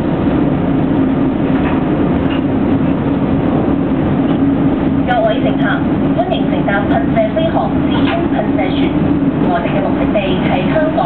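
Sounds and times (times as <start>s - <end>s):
hydrofoil turbine drone in cabin: 0.0s - 11.0s
steady low hum: 0.0s - 11.0s.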